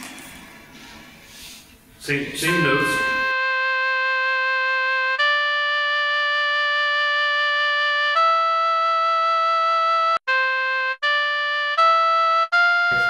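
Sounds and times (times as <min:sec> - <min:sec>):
oboe playing held notes: 0:02.4 - 0:13.0.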